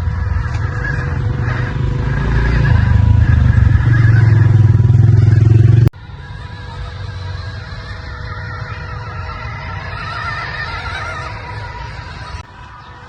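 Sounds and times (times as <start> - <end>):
rc car motor pulsing: 0.0 - 5.4, 6.0 - 13.0.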